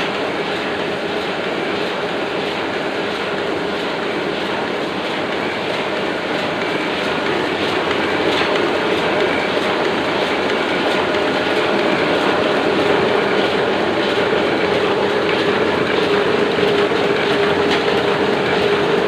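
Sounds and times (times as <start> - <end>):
printing press clattering: 0.0 - 19.0.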